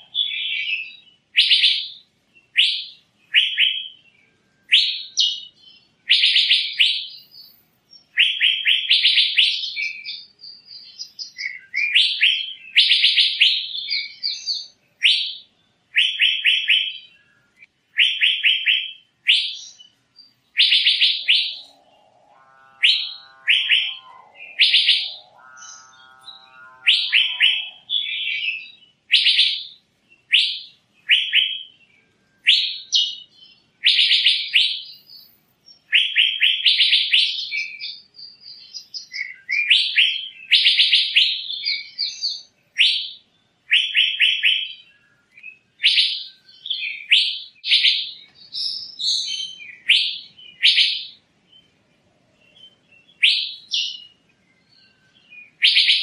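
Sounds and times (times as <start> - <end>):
bird calling: 0.0 - 51.2, 52.5 - 56.0.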